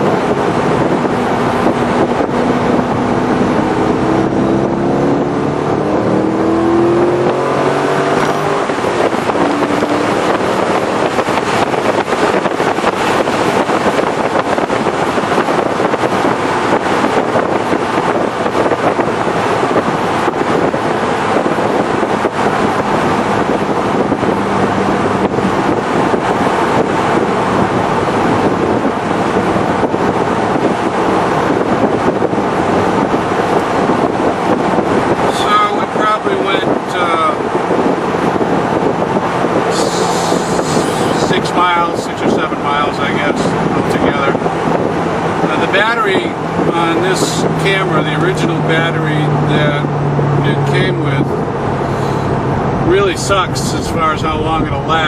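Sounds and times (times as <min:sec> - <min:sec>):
car engine accelerating hard: 0:00.0 - 0:55.0
wind and road noise: 0:00.0 - 0:55.0.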